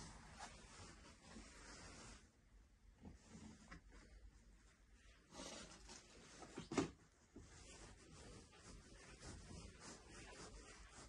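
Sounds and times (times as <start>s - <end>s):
faint rustling: 0.0s - 11.0s.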